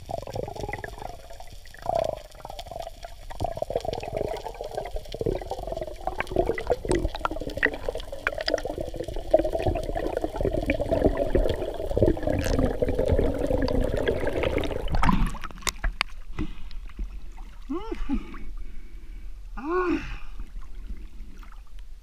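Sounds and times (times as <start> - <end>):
water churning underwater: 0.0 - 19.0.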